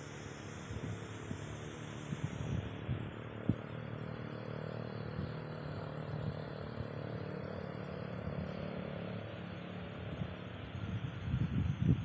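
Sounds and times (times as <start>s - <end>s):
low engine hum: 0.0s - 12.0s
outdoor hiss: 0.0s - 12.0s.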